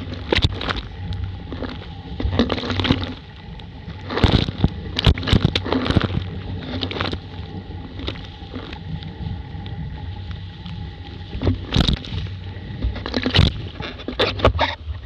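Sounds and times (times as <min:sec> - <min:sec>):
water rushing along a hull: 0:00.0 - 0:15.0.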